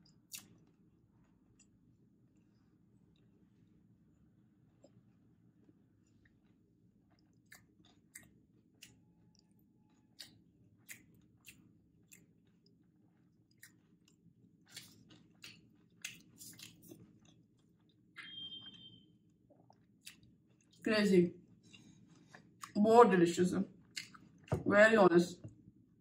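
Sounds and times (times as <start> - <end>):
wet chewing clicks and smacks: 0.0 - 3.8, 5.6 - 20.8, 21.6 - 22.8, 23.8 - 24.6.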